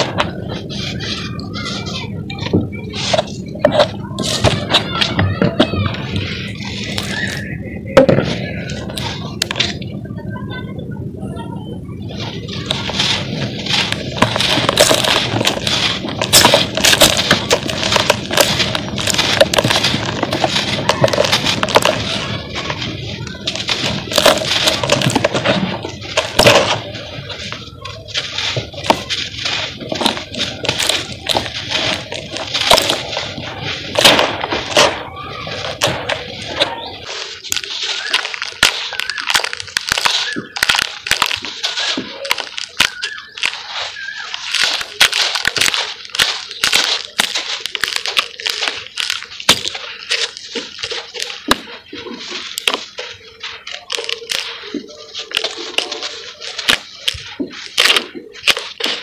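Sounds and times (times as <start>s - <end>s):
cement clumps crunching: 0.0s - 9.9s, 12.0s - 59.0s.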